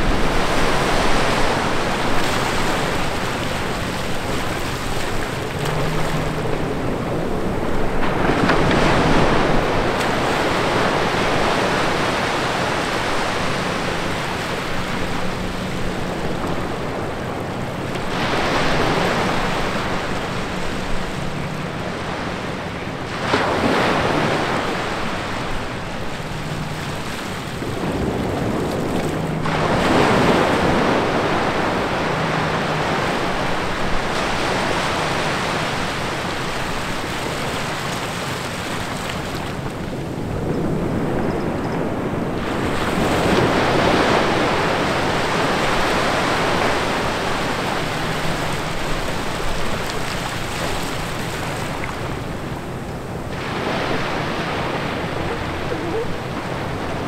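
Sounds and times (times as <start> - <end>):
small waves washing on sand: 0.0 - 57.0.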